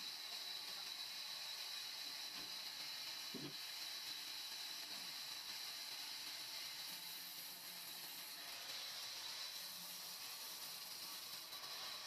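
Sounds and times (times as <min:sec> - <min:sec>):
band saw running: 0:00.0 - 0:12.0.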